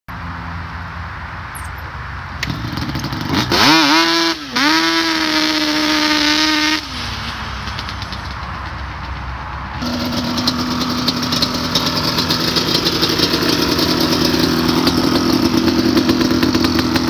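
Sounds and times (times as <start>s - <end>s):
two-stroke quad engine revving: 2.4s - 17.0s.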